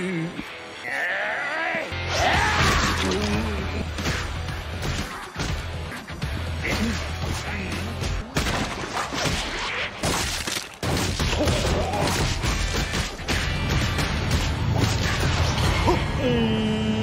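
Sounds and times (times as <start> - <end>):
dramatic background music: 0.0 - 17.0.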